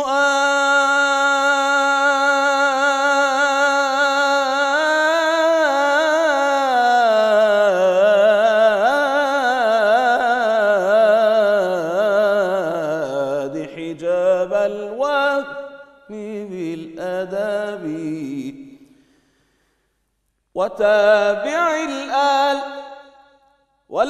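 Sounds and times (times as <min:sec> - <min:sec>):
man singing devotional song: 0:00.0 - 0:19.1, 0:20.4 - 0:24.0.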